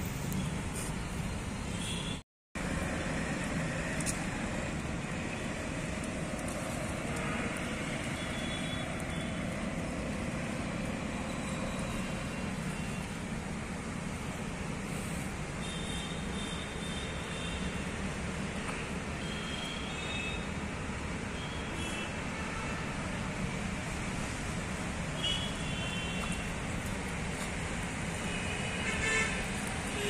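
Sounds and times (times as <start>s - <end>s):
distant traffic rumble: 2.6s - 21.5s, 22.9s - 30.0s.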